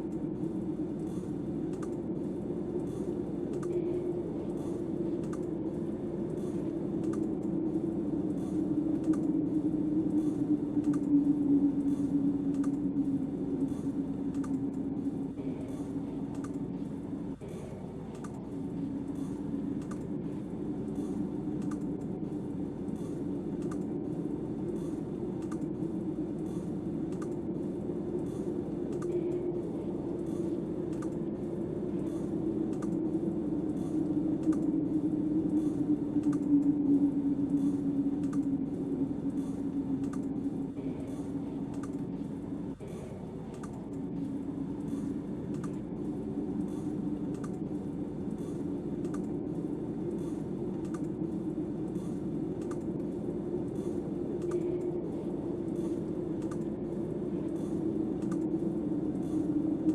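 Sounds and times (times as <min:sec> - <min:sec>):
wind howling: 0:00.0 - 0:59.9
light regular clicking: 0:01.0 - 0:16.7, 0:18.0 - 0:20.1, 0:20.8 - 0:24.0, 0:24.6 - 0:27.4, 0:28.2 - 0:29.4, 0:30.2 - 0:31.3, 0:31.9 - 0:59.9.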